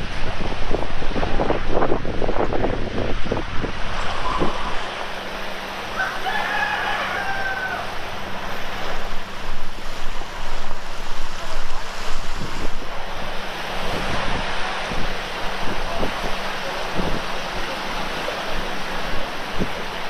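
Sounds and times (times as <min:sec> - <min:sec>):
surf: 0:00.0 - 0:20.0
wind: 0:00.0 - 0:20.0.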